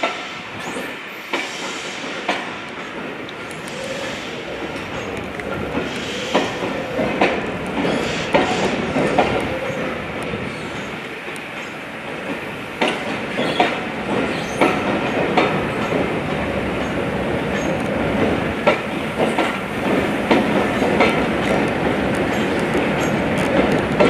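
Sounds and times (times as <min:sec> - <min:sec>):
train rumble: 0:00.0 - 0:24.0
train wheels clicking over rail joints: 0:00.0 - 0:24.0.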